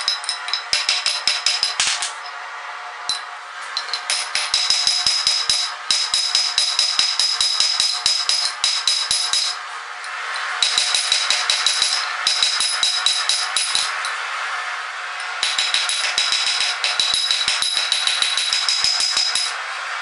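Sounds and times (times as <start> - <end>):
hammer striking steel on anvil: 0.0 - 2.4, 3.1 - 14.2, 15.2 - 19.6.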